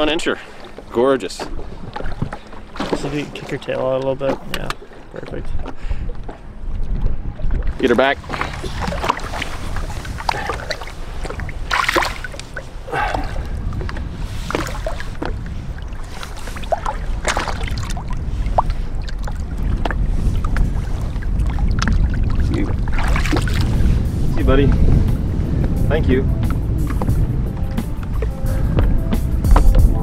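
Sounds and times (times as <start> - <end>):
water lapping against boat: 0.0 - 30.0
wind rumble on microphone: 4.4 - 30.0.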